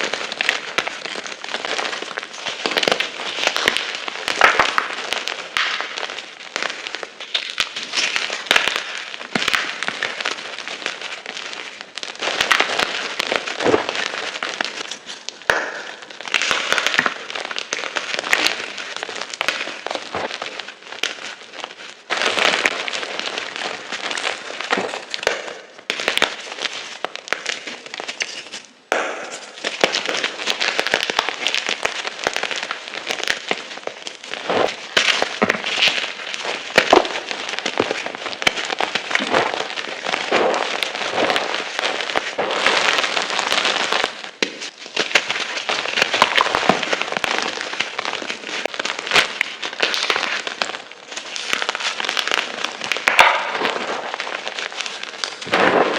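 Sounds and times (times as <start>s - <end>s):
chalk crunching and crackling: 0.0s - 55.9s.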